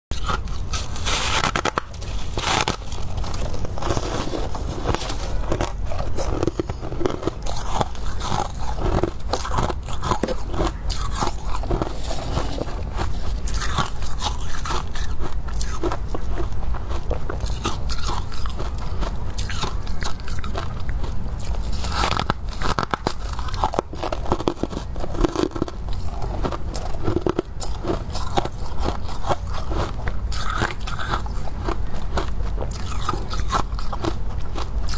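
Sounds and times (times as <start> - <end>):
chewing crunchy frost: 0.1 - 34.9
steady low hum: 0.1 - 34.9.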